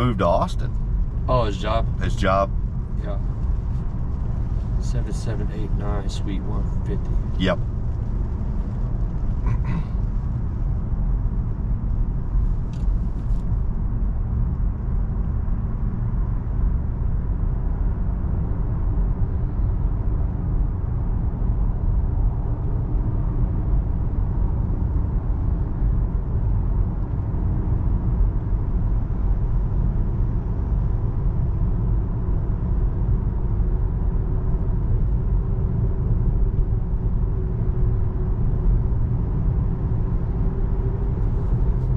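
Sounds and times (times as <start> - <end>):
road and tyre noise in car: 0.0 - 41.9.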